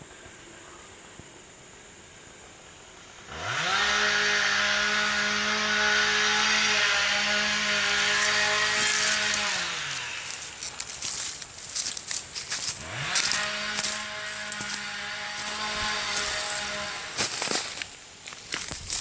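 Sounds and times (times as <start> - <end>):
two-stroke chainsaw revving: 3.2 - 19.0.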